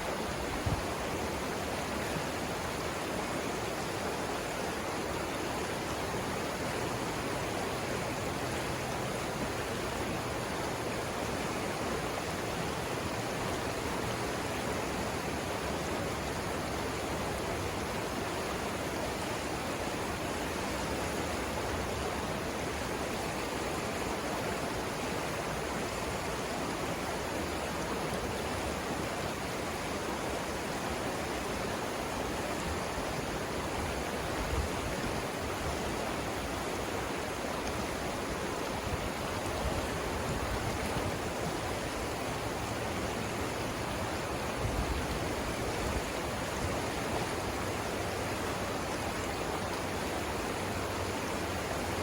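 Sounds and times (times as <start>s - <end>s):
water rushing over rapids: 0.0s - 52.0s.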